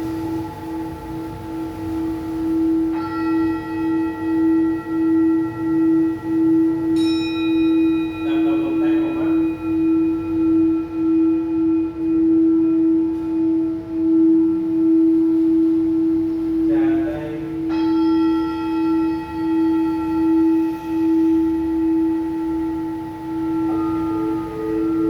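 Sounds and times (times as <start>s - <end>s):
singing bowl ringing: 0.0s - 25.0s.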